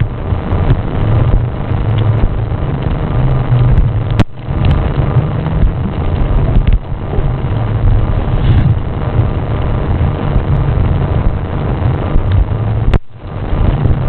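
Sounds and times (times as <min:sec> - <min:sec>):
water rumbling against housing: 0:00.0 - 0:14.0.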